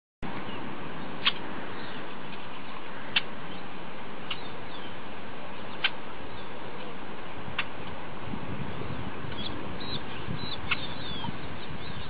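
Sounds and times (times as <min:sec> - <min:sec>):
steady background hiss: 0:00.2 - 0:12.0
small birds chirping: 0:00.3 - 0:07.8, 0:08.6 - 0:12.0.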